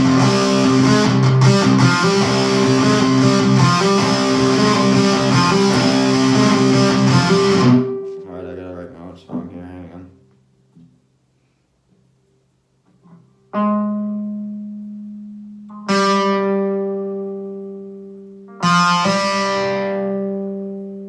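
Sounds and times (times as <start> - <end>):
guitar chords ringing: 0.0 - 10.3, 13.0 - 21.0.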